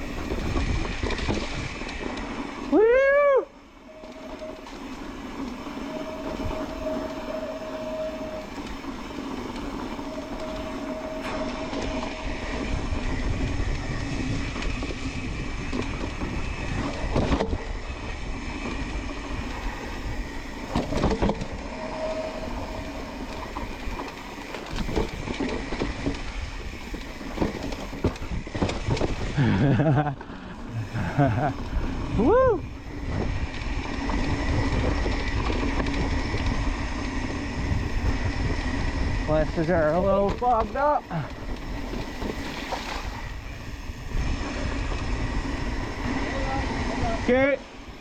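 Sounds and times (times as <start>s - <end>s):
bike tyres rolling over rock: 0.0s - 3.3s, 11.8s - 48.0s.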